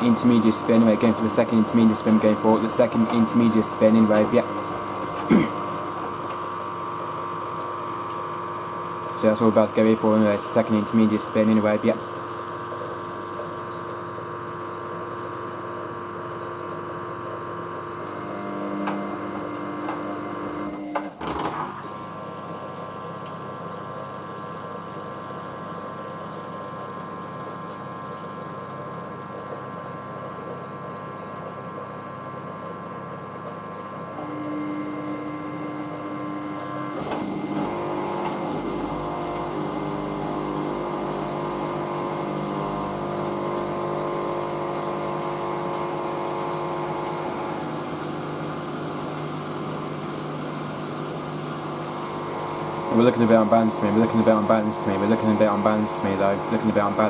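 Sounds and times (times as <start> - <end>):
washing machine motor whine: 0.0 - 57.0.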